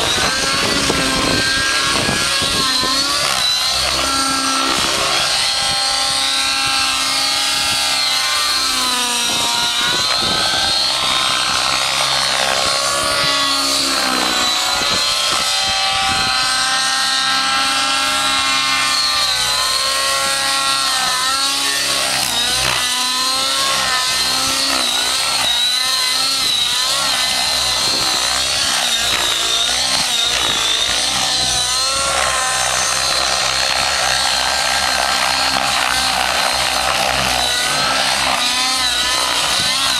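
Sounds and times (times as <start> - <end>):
model helicopter engine and rotors: 0.0 - 39.9.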